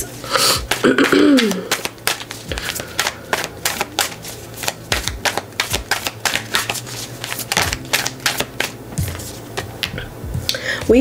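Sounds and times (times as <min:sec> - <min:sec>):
cards being shuffled: 0:00.0 - 0:10.1.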